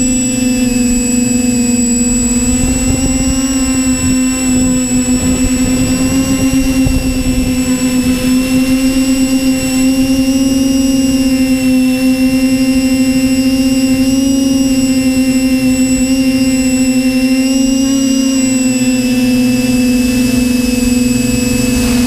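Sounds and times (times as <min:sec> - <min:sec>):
drone motors whining: 0:00.0 - 0:22.0
wind buffeting microphone: 0:00.0 - 0:22.0.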